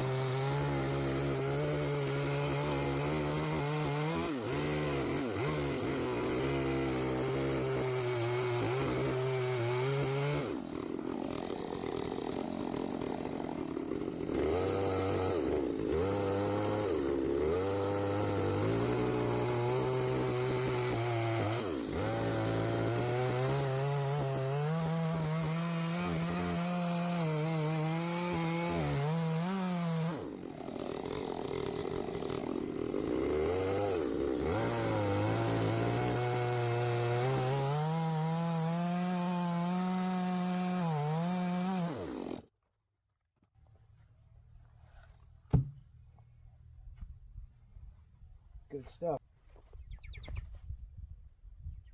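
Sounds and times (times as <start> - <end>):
chainsaw cutting wood: 0.0 - 42.5, 45.5 - 45.9.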